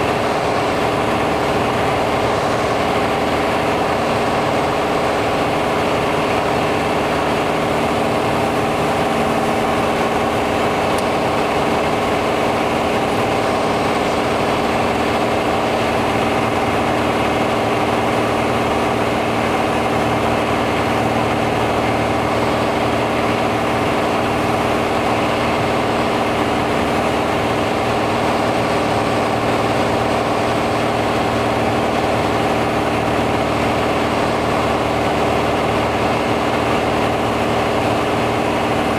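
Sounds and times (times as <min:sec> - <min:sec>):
propeller plane engine droning: 0:00.0 - 0:38.9
rushing air: 0:00.0 - 0:38.9.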